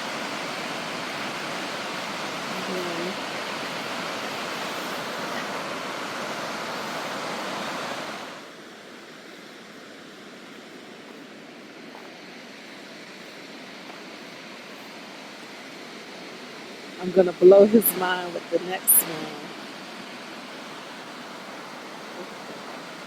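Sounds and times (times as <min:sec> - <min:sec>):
waterfall rushing: 0:00.0 - 0:08.5, 0:11.8 - 0:23.0.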